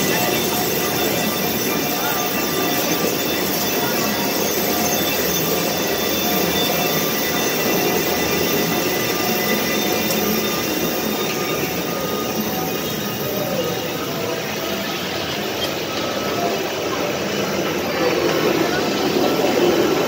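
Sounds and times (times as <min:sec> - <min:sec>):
ride train rolling on track: 0:00.0 - 0:20.0.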